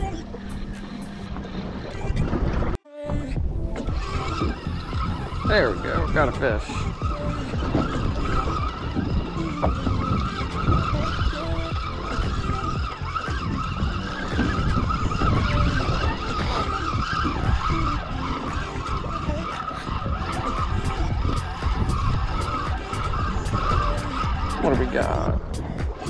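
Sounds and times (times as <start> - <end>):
heavy low rumble: 0.0 - 26.0
fishing reel gears whirring: 3.6 - 26.0.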